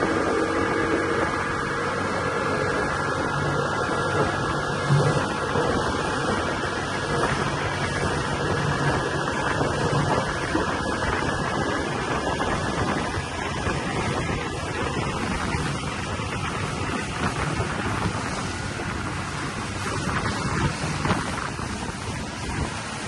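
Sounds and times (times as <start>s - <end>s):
outboard motor running: 0.0s - 23.0s
wind noise on microphone: 0.0s - 23.0s.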